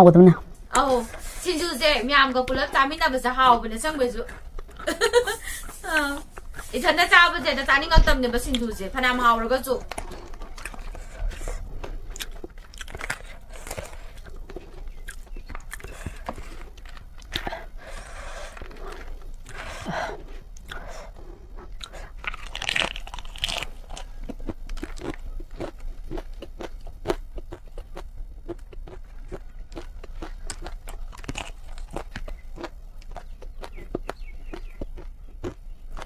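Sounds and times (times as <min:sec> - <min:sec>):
person chewing noodles: 0:04.3 - 0:07.1, 0:08.4 - 0:36.0.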